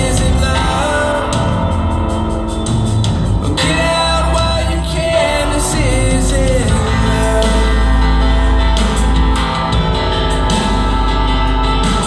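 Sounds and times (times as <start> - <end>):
pop-rock song over loudspeakers: 0.0 - 12.0.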